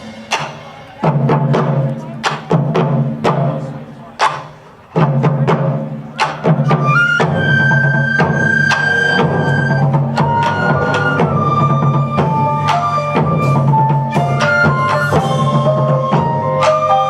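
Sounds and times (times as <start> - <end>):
live band with bass and keyboard: 0.0 - 17.0
taiko drums beating: 0.0 - 17.0.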